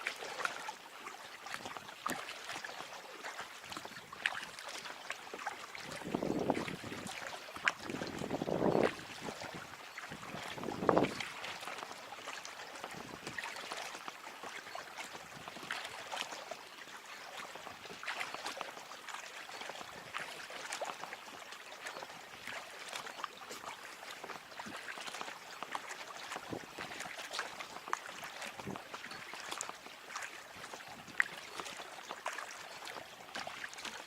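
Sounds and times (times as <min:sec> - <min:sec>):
paddle splashing in water: 0:00.0 - 0:34.0
trickling water: 0:00.0 - 0:34.0.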